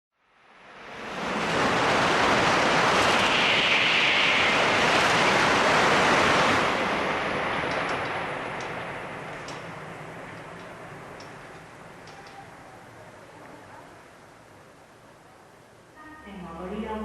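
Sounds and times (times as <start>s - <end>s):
train passing at speed: 0.2s - 17.0s.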